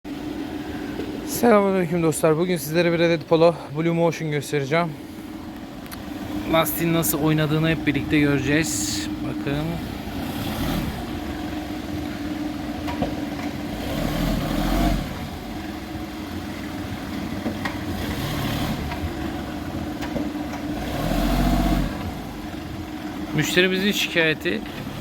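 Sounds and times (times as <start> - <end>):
car engine idling: 0.1 - 25.0.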